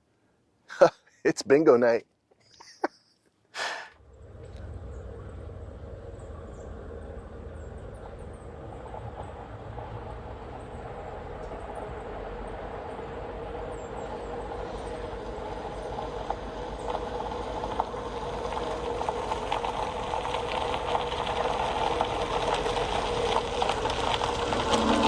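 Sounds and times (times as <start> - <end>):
pickup engine running: 4.0 - 25.0.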